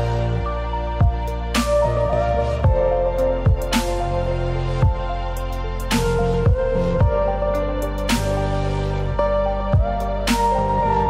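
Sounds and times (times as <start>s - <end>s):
background music held notes: 0.0s - 11.0s.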